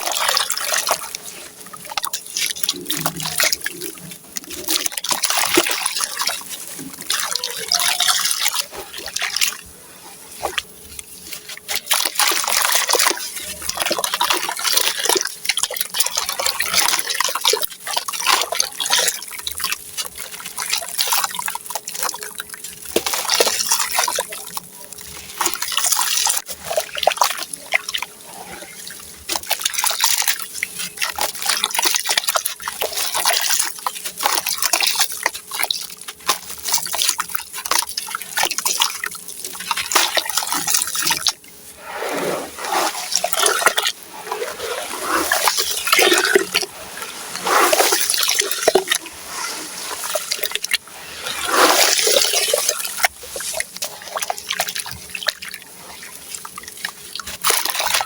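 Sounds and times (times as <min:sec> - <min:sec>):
water trickling: 0:00.0 - 0:09.7, 0:10.5 - 0:58.0.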